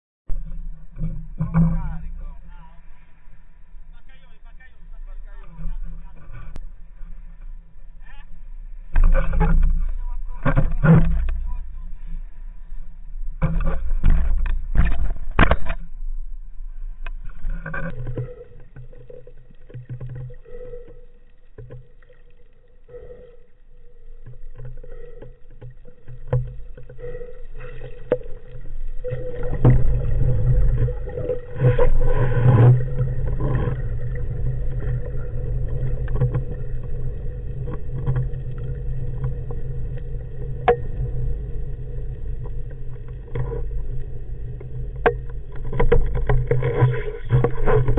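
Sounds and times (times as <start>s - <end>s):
muffled underwater splashing: 0.3s - 47.9s
steady low hum: 0.3s - 47.9s.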